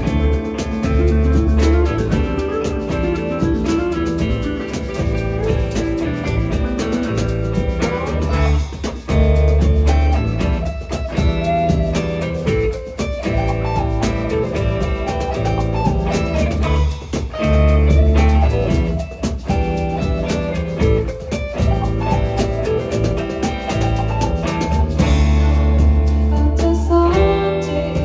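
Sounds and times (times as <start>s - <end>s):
drums playing: 0.0s - 28.0s.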